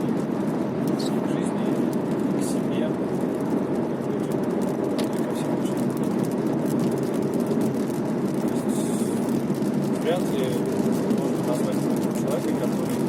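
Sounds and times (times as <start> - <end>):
rain ticking on car: 0.0 - 13.0
tyres and engine rumble: 0.0 - 13.0.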